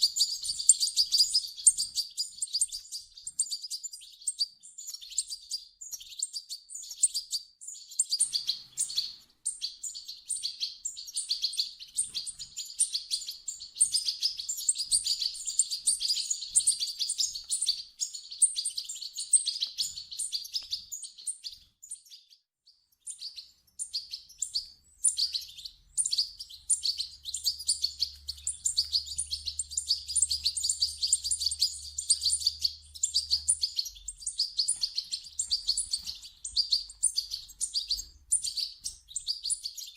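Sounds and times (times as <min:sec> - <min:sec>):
goldfinches twittering: 0:00.0 - 0:22.2, 0:23.0 - 0:39.9.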